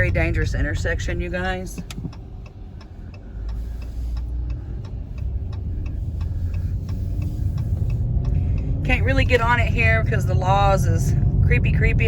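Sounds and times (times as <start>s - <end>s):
engine and road hum: 0.0s - 12.0s
turn signal ticking: 0.0s - 12.0s.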